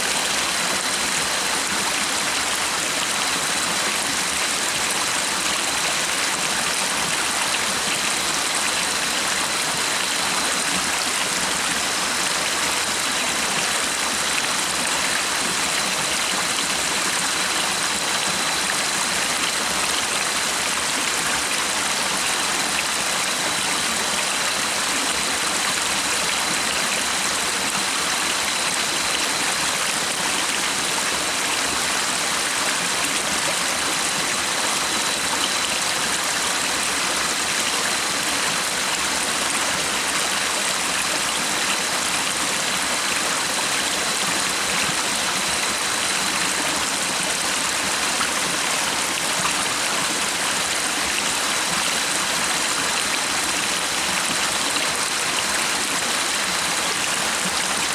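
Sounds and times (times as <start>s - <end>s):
stream of water running: 0.0s - 57.9s.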